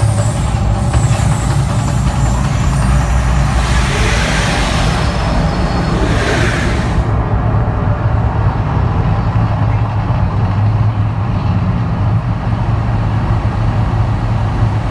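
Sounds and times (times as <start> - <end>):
deep rumble over loudspeakers: 0.0 - 13.6.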